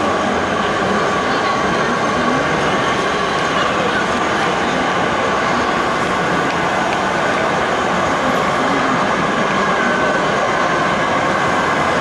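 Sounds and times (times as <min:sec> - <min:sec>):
hall noise hiss and rumble: 0:00.0 - 0:12.0.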